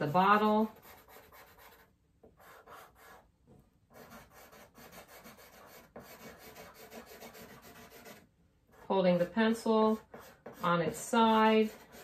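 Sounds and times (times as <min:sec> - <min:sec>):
pencil scratching on paper: 0:00.0 - 0:03.3, 0:03.9 - 0:12.0.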